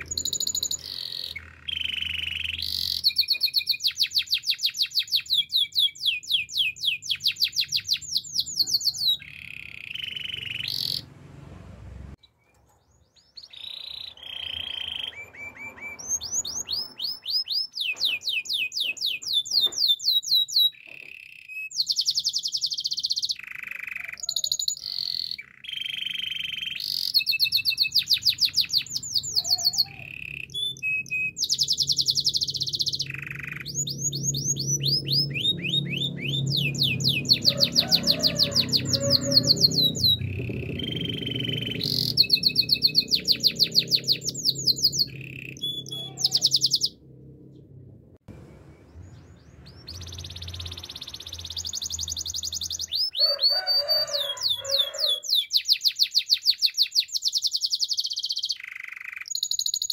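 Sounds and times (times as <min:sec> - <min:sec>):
canary singing trills: 0:00.0 - 0:11.1, 0:12.2 - 0:47.7, 0:48.7 - 0:59.9.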